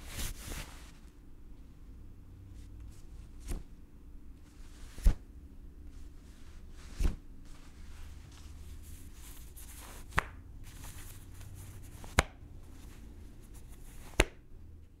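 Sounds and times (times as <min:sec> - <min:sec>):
clothing rustling: 0:00.0 - 0:01.2, 0:02.5 - 0:14.3.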